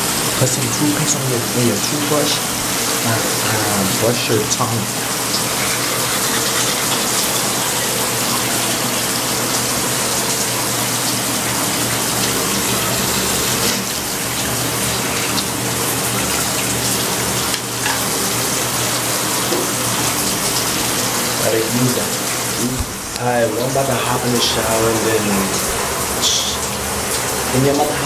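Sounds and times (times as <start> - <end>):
water running from a tap: 0.0 - 28.0.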